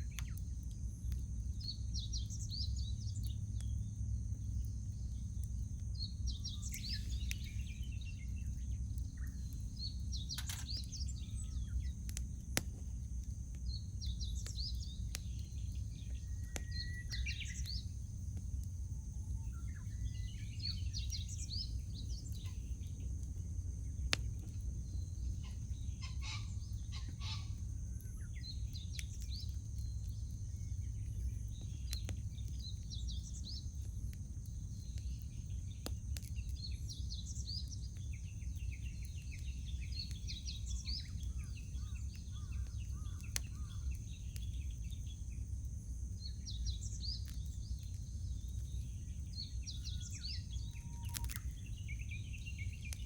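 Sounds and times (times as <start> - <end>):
birds chirping: 0.0 - 18.4, 19.0 - 53.0
campfire wood popping: 0.0 - 53.0.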